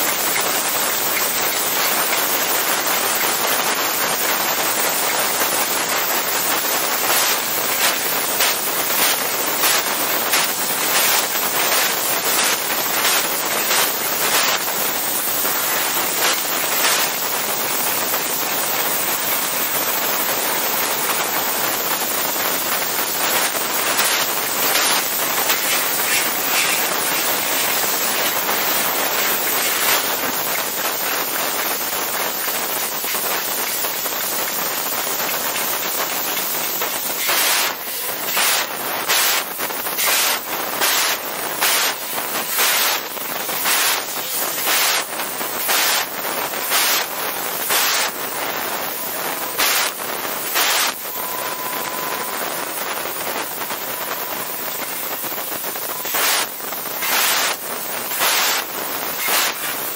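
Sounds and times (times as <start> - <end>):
laser cutter gas jet hissing: 0.0 - 59.9.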